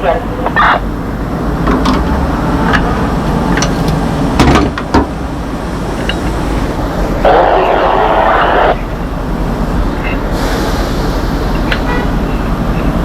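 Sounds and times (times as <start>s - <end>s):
fire truck engine rumbling: 0.0s - 13.0s.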